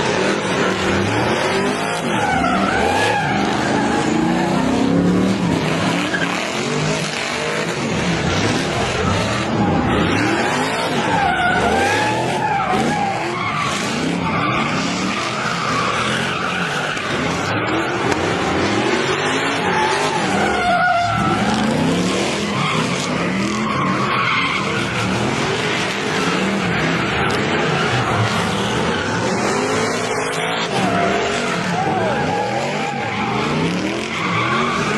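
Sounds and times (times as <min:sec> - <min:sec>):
car engine revving: 0:00.0 - 0:34.9
tyres squealing: 0:00.8 - 0:34.9.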